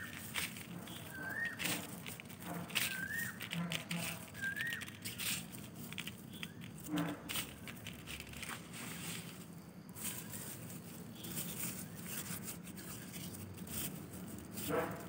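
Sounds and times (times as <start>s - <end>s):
shredded paper rustling and crinkling: 0.0s - 15.0s.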